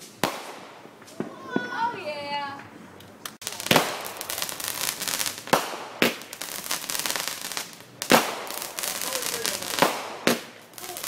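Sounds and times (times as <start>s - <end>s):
fireworks banging: 0.0s - 11.0s
fireworks crackling: 0.0s - 11.0s.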